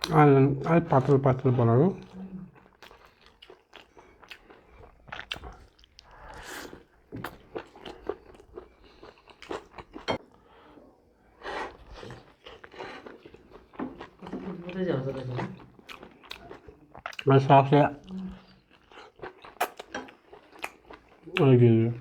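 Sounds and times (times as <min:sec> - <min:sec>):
chewing crunchy food: 0:00.0 - 0:10.2, 0:11.3 - 0:22.0.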